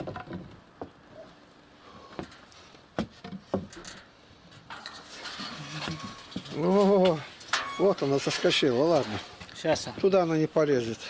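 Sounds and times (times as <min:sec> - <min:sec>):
rustling: 0:01.1 - 0:10.4.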